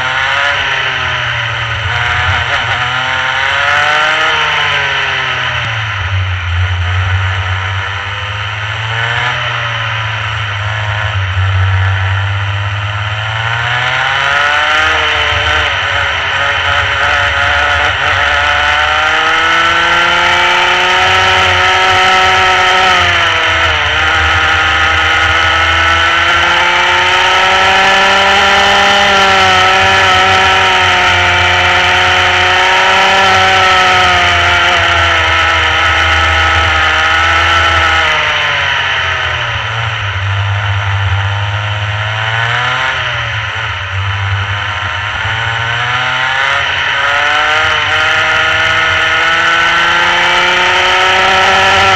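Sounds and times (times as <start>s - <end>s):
kart engine at racing revs: 0.0s - 51.9s.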